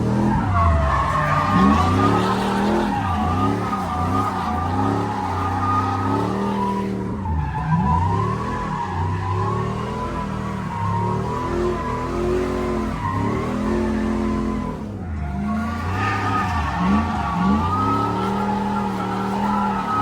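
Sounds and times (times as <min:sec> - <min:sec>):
car engine revving: 0:00.0 - 0:20.0
tyre squeal and skidding: 0:00.0 - 0:20.0.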